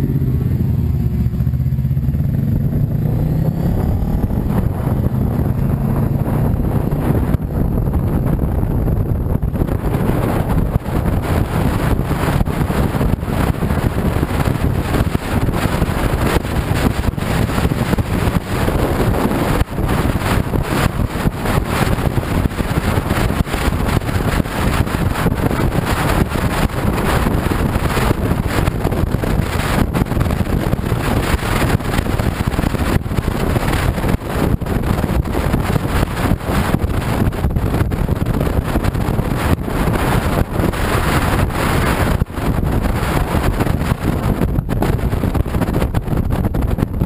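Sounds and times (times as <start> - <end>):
scooter engine: 0.0 - 44.6
road noise: 0.0 - 47.0
wind buffeting microphone: 0.0 - 47.0.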